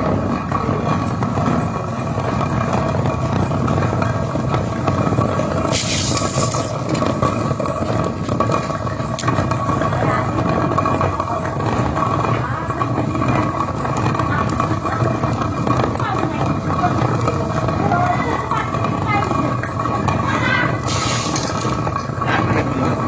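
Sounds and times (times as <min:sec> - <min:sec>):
flour mill grinding rumble: 0:00.0 - 0:23.0.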